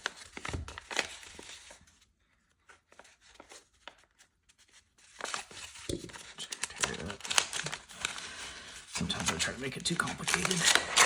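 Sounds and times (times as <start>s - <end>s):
cardboard rustling and tearing: 0.0s - 2.0s, 2.9s - 11.0s.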